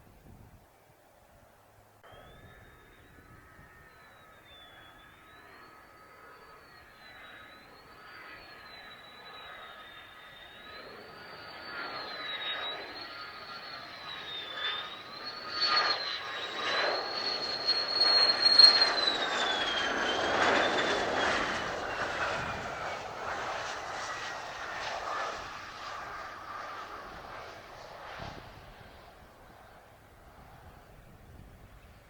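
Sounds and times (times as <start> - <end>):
jet engine whine and rush: 2.0 - 32.0.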